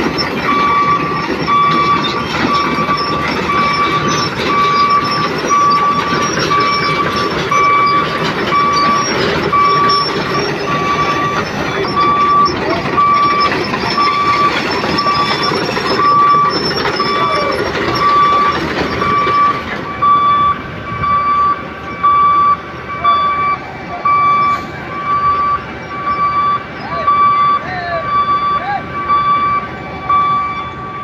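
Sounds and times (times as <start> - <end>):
engine and machinery noise: 0.0 - 31.0
warning alarm beeping: 0.0 - 31.0.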